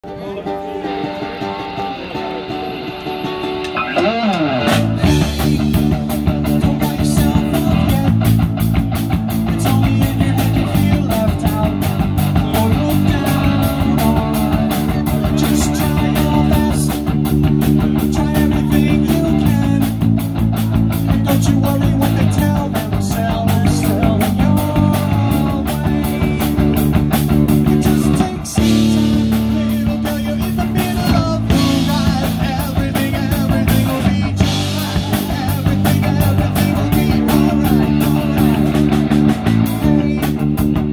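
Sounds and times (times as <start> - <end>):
bass guitar: 0.0 - 40.9
electric guitar: 0.0 - 40.9
drum kit beat: 0.7 - 40.9.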